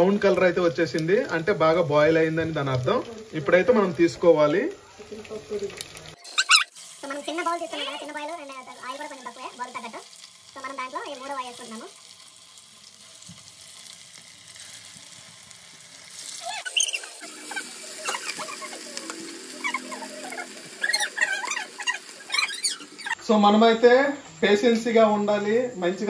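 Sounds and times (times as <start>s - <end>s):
food deep-frying in oil: 0.0s - 23.3s.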